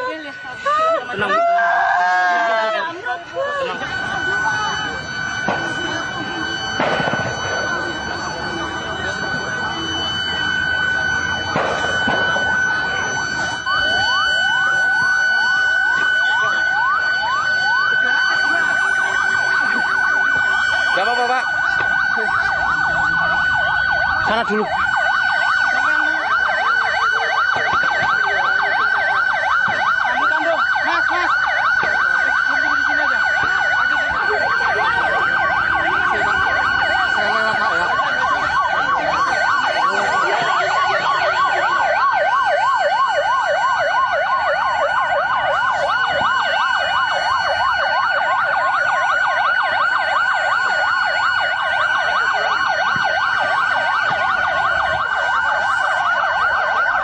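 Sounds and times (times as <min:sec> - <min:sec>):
emergency siren warbling: 0:00.0 - 0:57.0.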